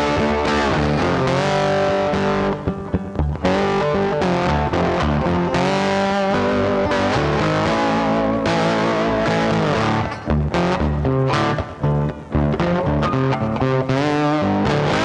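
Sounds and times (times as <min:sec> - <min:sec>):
distorted electric guitar music: 0:00.0 - 0:15.0.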